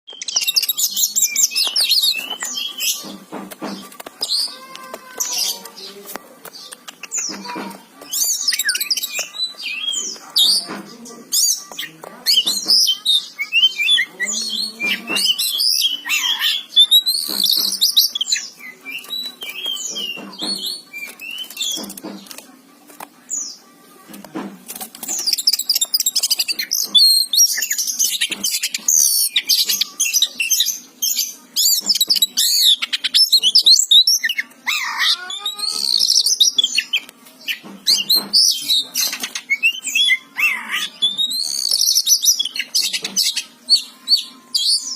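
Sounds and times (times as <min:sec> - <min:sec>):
magpie-robin singing: 0:00.1 - 0:22.4, 0:25.0 - 0:44.9.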